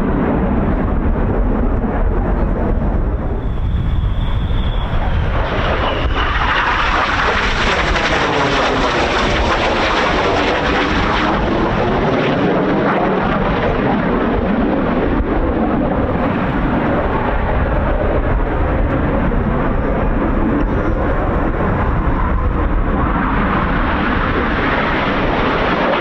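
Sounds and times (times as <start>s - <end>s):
jet aircraft roar: 0.0s - 26.0s
wind buffeting microphone: 0.0s - 26.0s.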